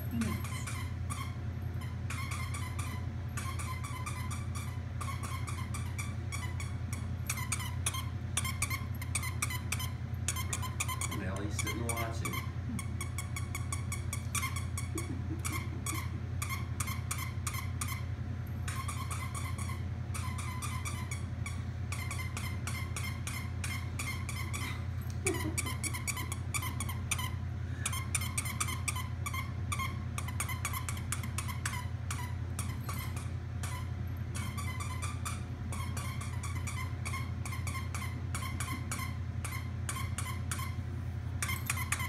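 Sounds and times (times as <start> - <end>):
dog toy squeaking: 0.0 - 40.8, 41.4 - 42.0
steady low hum: 0.0 - 42.0.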